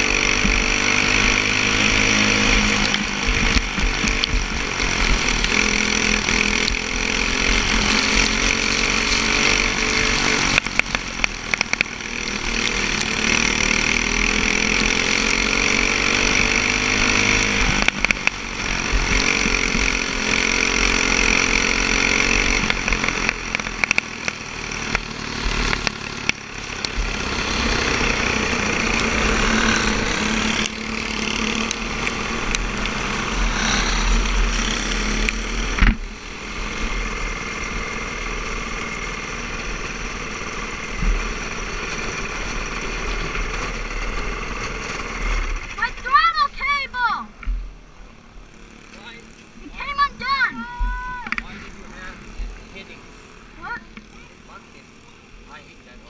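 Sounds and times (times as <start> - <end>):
go-kart engine at full throttle: 0.0 - 56.0.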